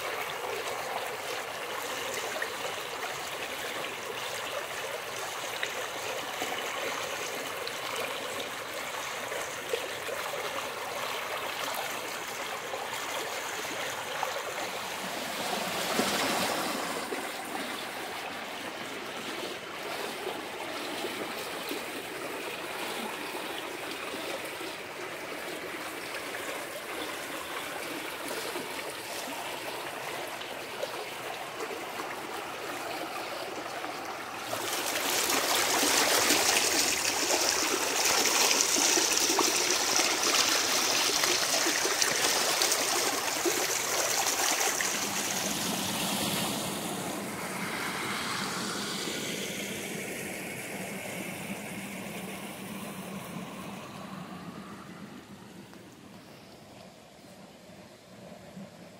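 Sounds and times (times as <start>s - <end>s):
floodwater rushing down creek: 0.0s - 58.9s.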